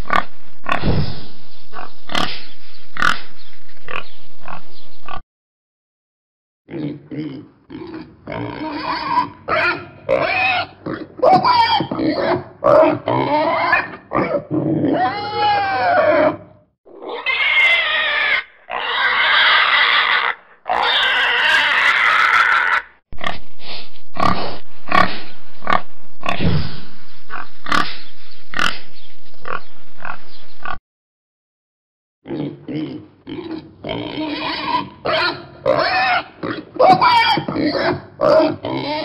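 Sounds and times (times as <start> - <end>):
pigs grunting and squealing: 0.1 - 3.3, 3.9 - 5.2, 6.7 - 30.8, 32.2 - 39.0.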